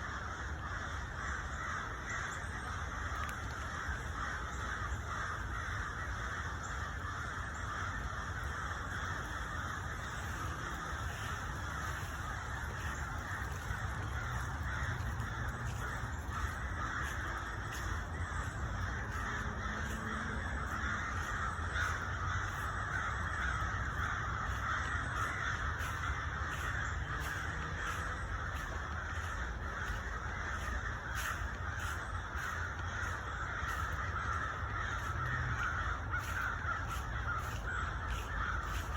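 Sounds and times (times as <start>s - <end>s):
large flock of birds calling: 0.0s - 38.9s.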